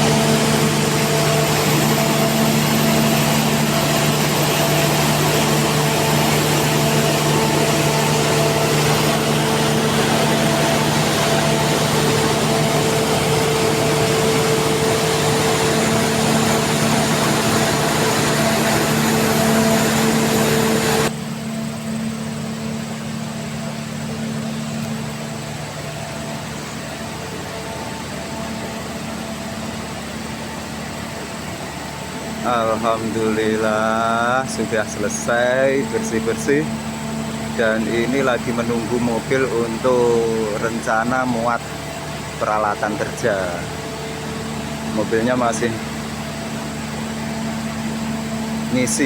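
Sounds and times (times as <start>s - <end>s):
machinery hum: 0.0s - 49.0s.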